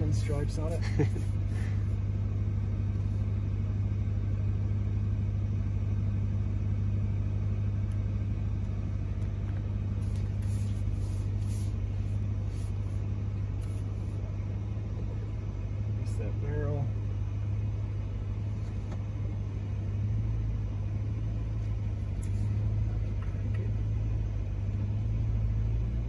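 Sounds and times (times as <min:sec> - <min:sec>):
engine droning: 0:00.0 - 0:26.0.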